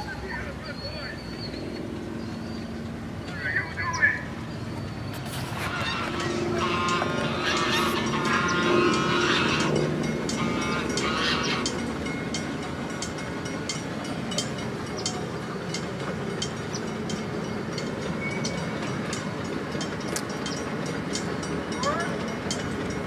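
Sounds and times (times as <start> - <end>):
train wheels rumbling on rails: 0.0 - 23.0
wheels clicking over rail joints: 0.0 - 23.0.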